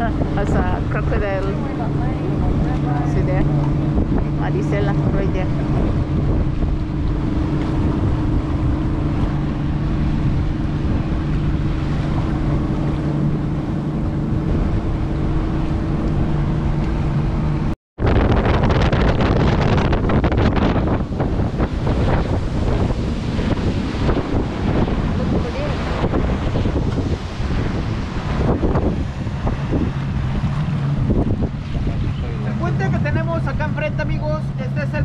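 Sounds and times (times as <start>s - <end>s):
motorboat engine running: 0.0s - 35.0s
water rushing and splashing: 0.0s - 35.0s
wind buffeting microphone: 0.0s - 35.0s.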